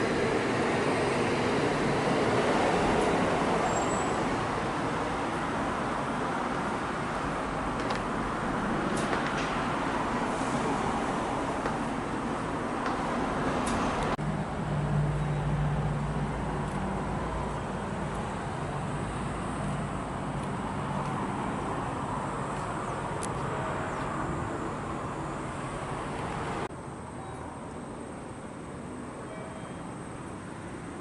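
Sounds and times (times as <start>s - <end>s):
vehicle engine hum: 4.2s - 29.2s.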